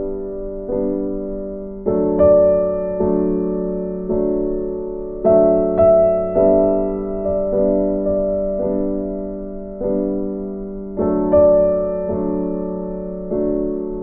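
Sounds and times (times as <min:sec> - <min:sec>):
soft music with gentle chords: 0:00.0 - 0:14.0.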